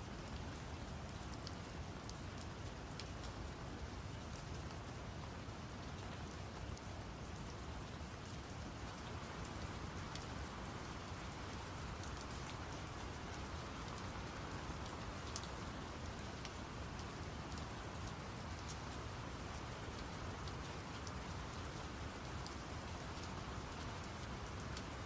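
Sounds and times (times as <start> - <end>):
rain drops ticking: 0.0 - 25.0.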